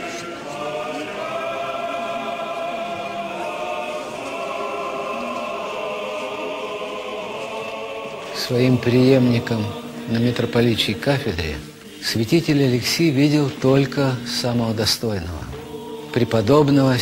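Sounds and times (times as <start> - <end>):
choir singing church chant: 0.0 - 17.0.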